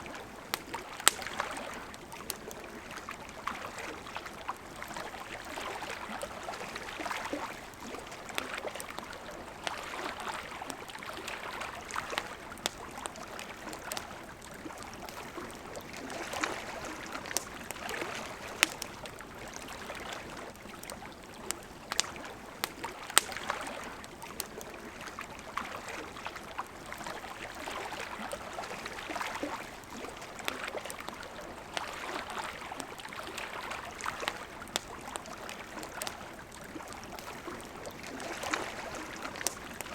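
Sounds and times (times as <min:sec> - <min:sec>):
babbling river: 0:00.0 - 0:39.9
campfire crackling and popping: 0:00.0 - 0:39.9.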